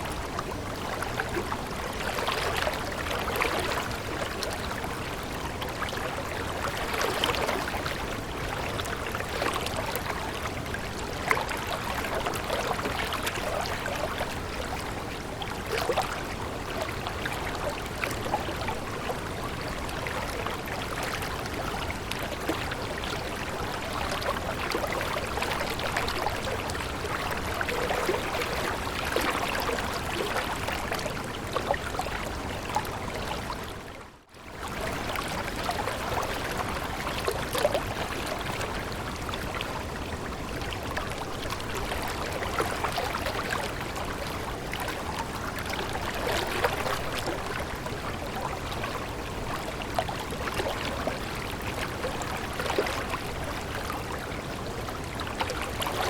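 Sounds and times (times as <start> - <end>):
stream of water babbling: 0.0 - 56.0.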